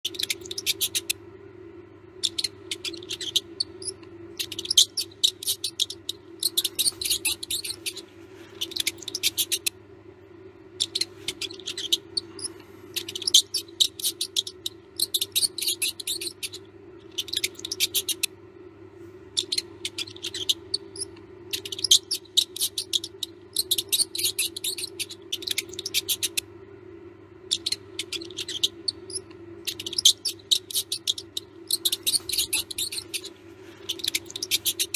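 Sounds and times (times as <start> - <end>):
mouse squeaking: 0.0 - 1.3, 2.1 - 9.8, 10.6 - 18.4, 19.3 - 26.5, 27.4 - 34.9
steady low hum: 0.0 - 34.9.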